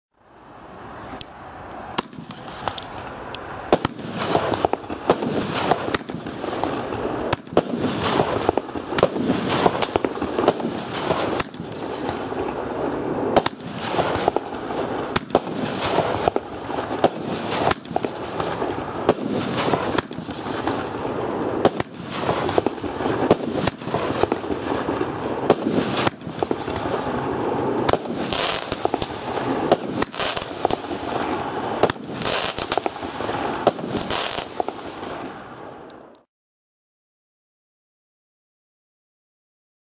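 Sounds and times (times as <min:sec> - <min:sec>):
firework launches and bursts: 0:00.3 - 0:35.9
crackling of bursting stars: 0:01.9 - 0:36.2.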